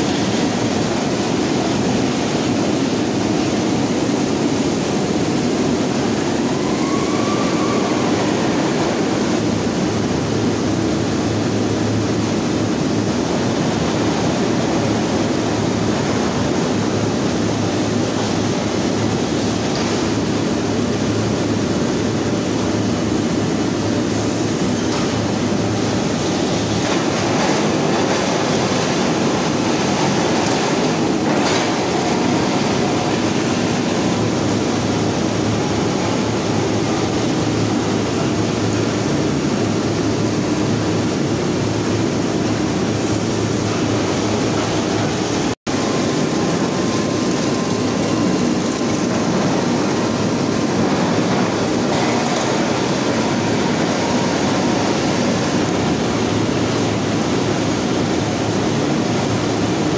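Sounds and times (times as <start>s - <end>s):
rolling mill machinery noise: 0.0s - 59.9s.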